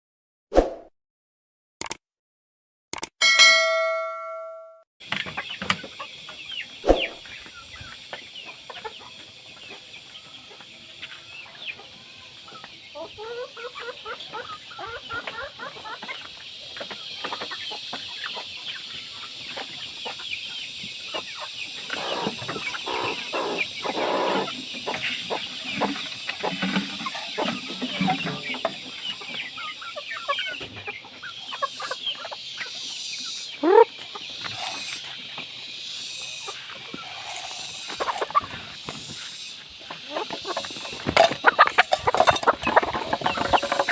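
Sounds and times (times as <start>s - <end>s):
chickens clucking: 5.0s - 43.9s.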